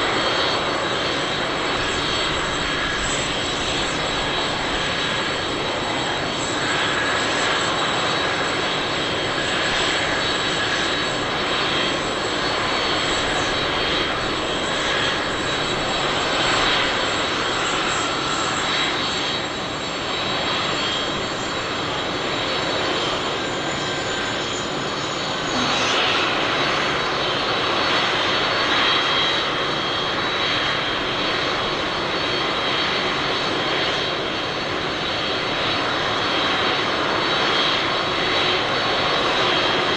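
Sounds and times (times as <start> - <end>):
high engine whine: 0.0 - 39.8
jet engines running: 0.0 - 39.9.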